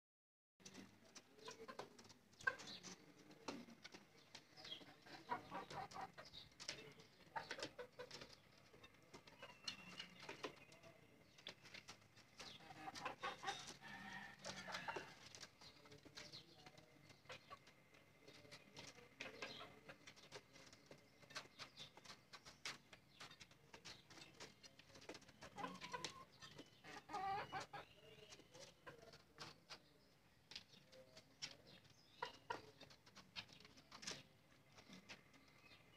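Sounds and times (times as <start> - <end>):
chickens clucking softly: 0.6 - 35.9
faint clicks and scratches: 0.6 - 35.9.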